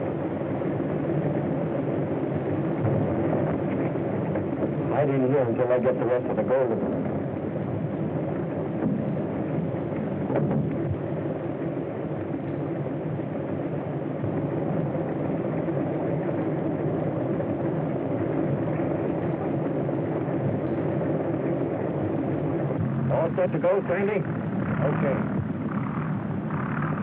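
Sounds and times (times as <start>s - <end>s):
steady engine drone: 0.0s - 27.0s.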